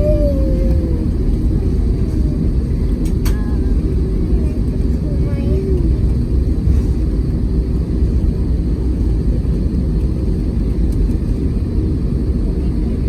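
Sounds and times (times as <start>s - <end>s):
airliner engines and wheels rumbling: 0.0s - 13.0s.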